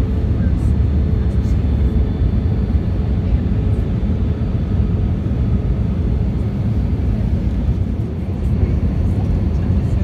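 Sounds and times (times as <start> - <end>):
airplane cabin engine roar: 0.0 - 10.0.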